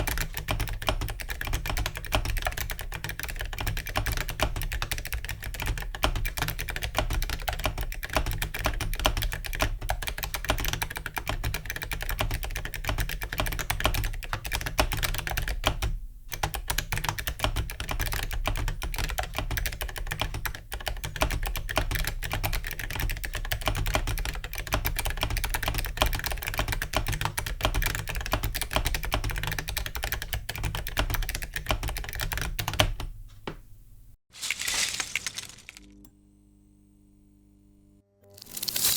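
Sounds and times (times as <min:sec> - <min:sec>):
typing on mechanical keyboard: 0:00.0 - 0:33.1.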